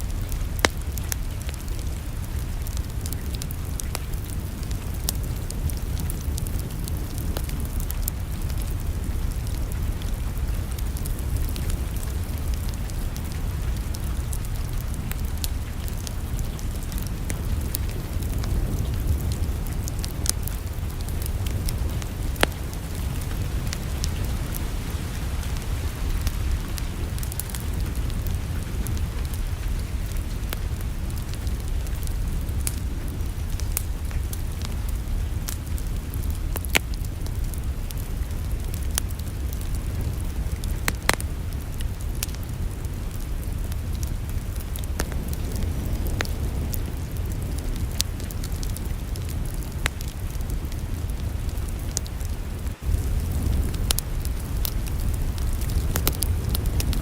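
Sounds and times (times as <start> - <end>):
low rumble of fire: 0.0 - 57.0
wood fire crackling: 0.0 - 57.0.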